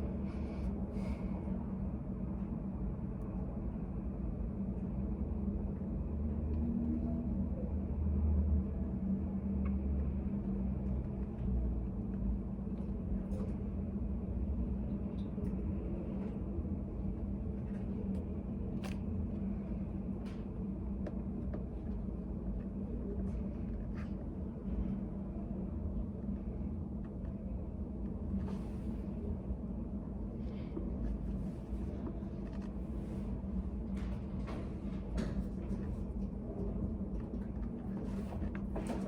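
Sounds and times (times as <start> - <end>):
steady low rumble: 0.0 - 7.7, 10.1 - 39.0.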